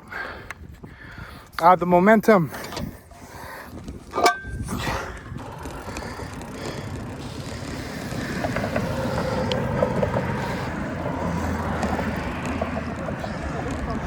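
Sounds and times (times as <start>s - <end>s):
bicycle road noise: 0.0s - 14.0s
wind noise: 0.0s - 14.0s.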